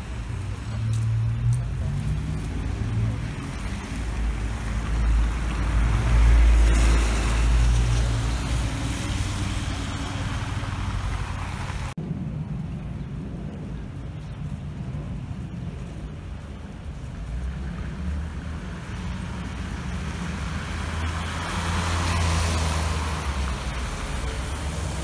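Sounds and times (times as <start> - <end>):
tyres hissing on wet road: 0.0 - 12.0, 14.5 - 25.0.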